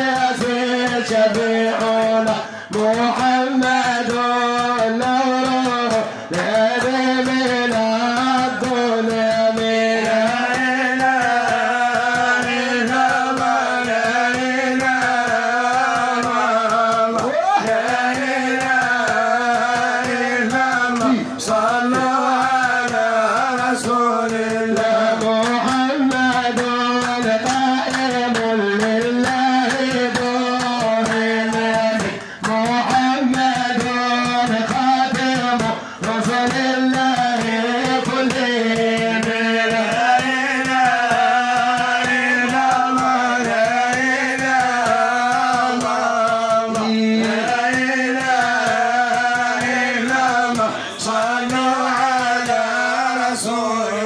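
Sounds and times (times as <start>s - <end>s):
men chanting: 0.0s - 54.0s
rapid percussion strokes: 0.0s - 54.0s.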